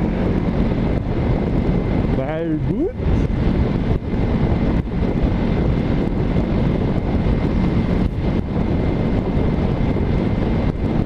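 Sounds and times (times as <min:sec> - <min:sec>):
motorcycle engine running: 0:00.0 - 0:11.0
wind rushing over microphone: 0:00.0 - 0:11.0.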